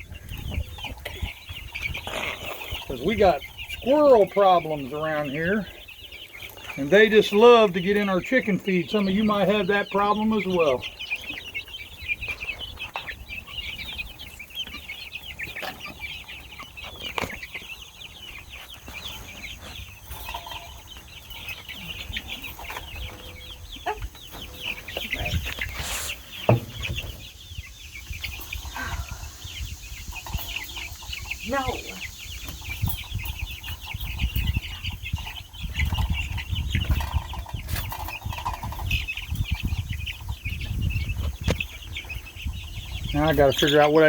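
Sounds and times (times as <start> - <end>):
chicks peeping: 0.0 - 44.0.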